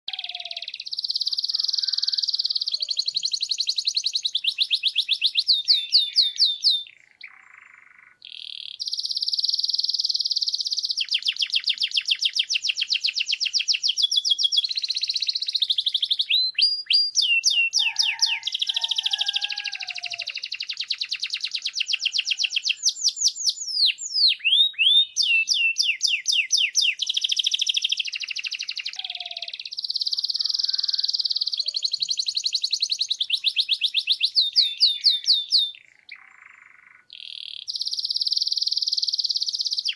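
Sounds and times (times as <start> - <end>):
canary singing trills: 0.1 - 39.9.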